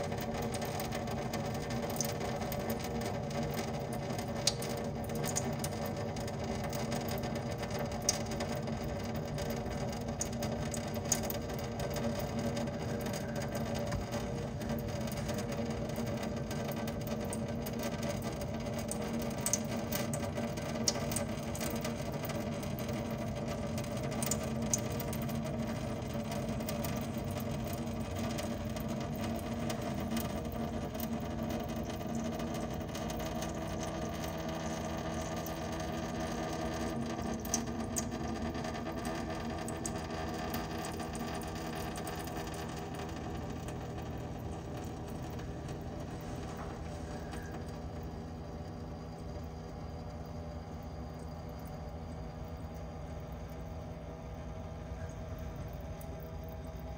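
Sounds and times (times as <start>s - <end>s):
steady low hum: 0.0s - 56.9s
water trickling into steel sink: 0.0s - 56.9s.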